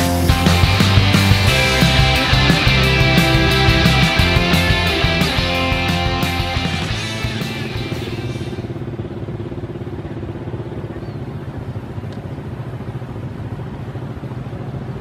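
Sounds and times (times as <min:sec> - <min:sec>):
locomotive engine droning: 0:00.0 - 0:15.0.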